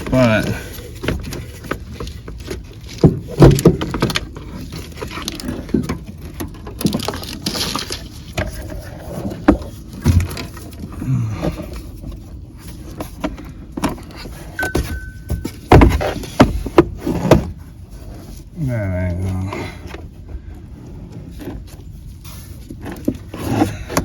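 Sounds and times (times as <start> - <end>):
car parts knocking and clunking: 0.0 - 18.2, 19.6 - 24.0.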